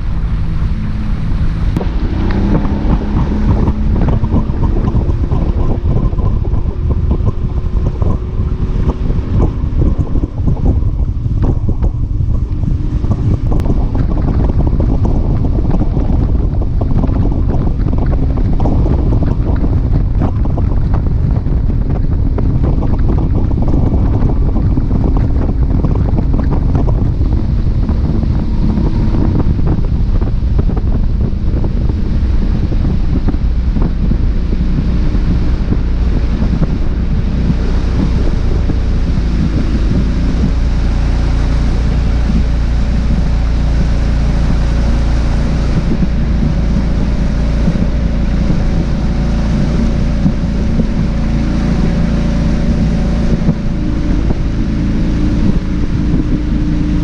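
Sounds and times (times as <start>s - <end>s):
boat motor running: 0.0s - 57.0s
water rushing past hull: 0.0s - 57.0s
wind buffeting microphone: 0.0s - 57.0s.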